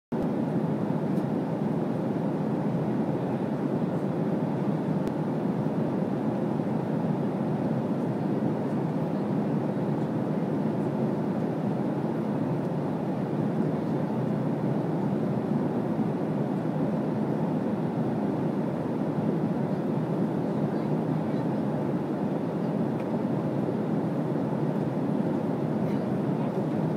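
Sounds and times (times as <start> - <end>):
airliner cabin noise: 0.1 - 26.9.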